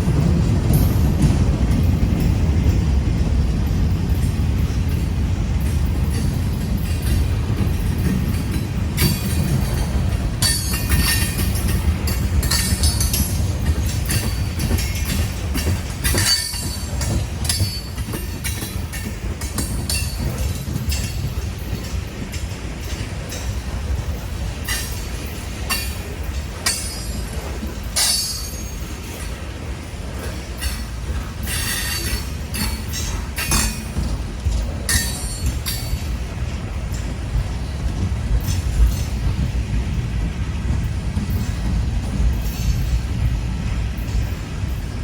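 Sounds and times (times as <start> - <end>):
rumble of train wheels on rail: 0.0 - 45.0.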